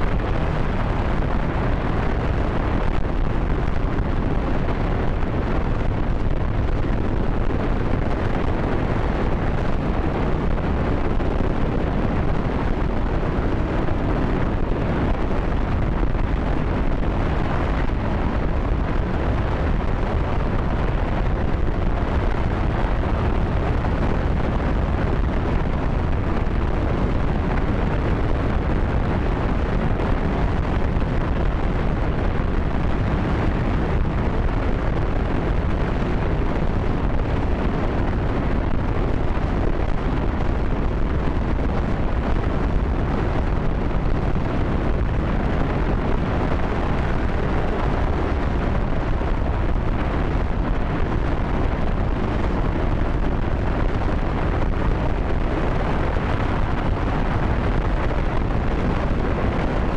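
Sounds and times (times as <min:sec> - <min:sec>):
rocket engine rumbling: 0:00.0 - 0:59.9.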